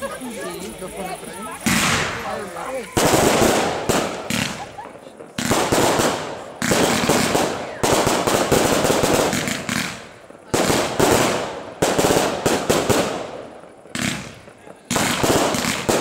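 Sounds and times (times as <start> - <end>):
firework crackling: 0.0 - 16.0
firework shells bursting: 1.6 - 16.0.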